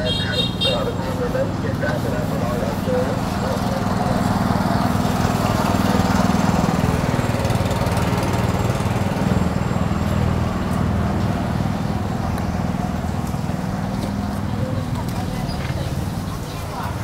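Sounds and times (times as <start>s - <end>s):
street market background noise: 0.0s - 17.0s
small engine running: 1.8s - 17.0s.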